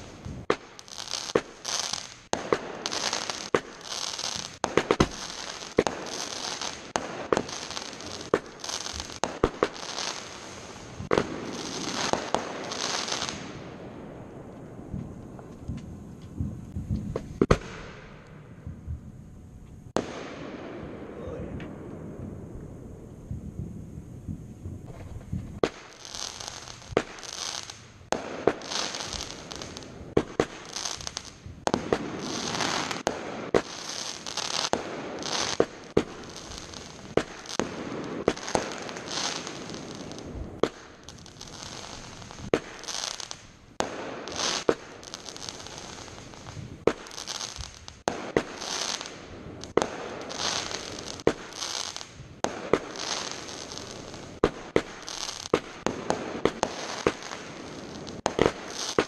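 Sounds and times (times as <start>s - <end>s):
fireworks bangs: 0.0s - 59.0s
fireworks crackling hiss: 0.0s - 59.0s.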